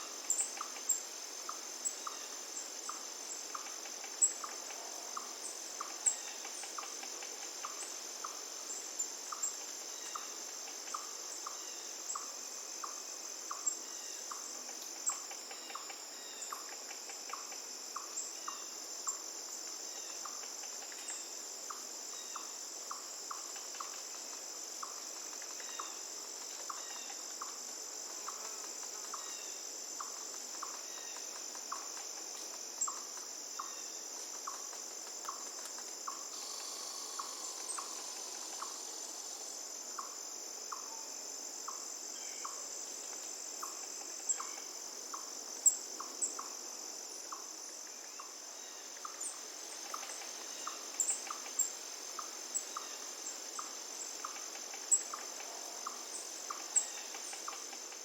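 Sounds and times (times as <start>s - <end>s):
crickets chorus: 0.0s - 58.0s
faint hiss: 0.0s - 58.0s.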